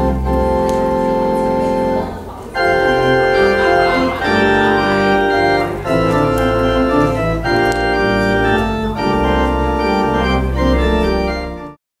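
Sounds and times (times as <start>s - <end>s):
deep organ pedal bass note: 0.0s - 11.8s
organ playing sustained chords: 0.0s - 11.8s.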